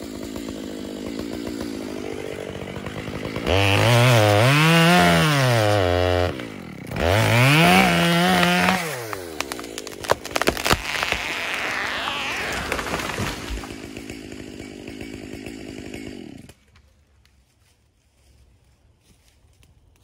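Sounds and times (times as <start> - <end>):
chainsaw idling and revving: 0.0 - 16.8
wood cracking: 0.2 - 17.7.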